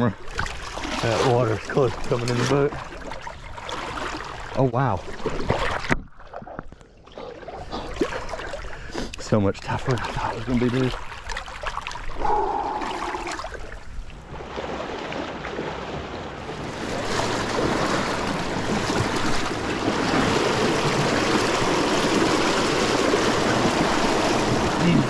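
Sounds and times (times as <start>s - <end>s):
water rushing around boat hull: 0.0s - 25.0s.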